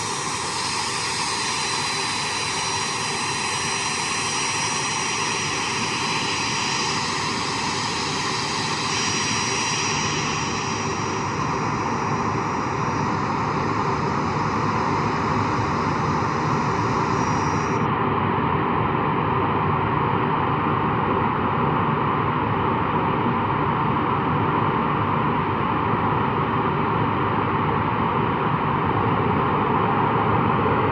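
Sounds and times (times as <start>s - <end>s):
jet engine rushing with high whine: 0.0s - 30.9s.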